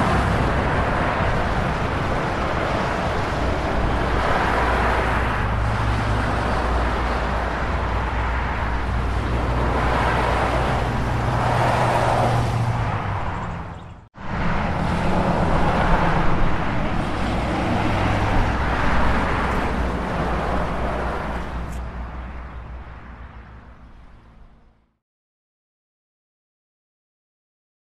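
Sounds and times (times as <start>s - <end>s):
cars passing: 0.0s - 25.0s
low engine hum: 0.0s - 25.0s.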